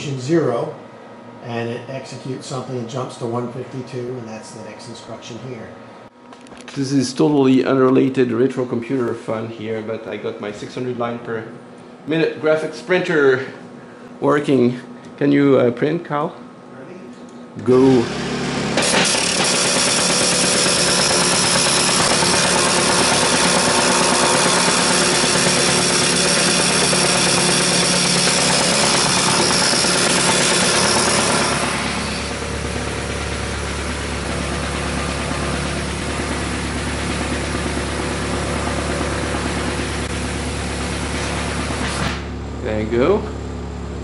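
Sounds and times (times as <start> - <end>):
steady low hum: 0.0 - 18.8, 22.4 - 44.0.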